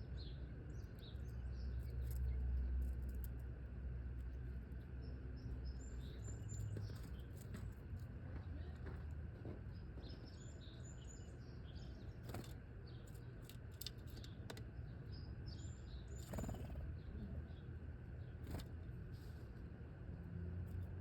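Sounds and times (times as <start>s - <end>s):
low background rumble: 0.0s - 21.0s
songbirds chirping: 0.0s - 21.0s.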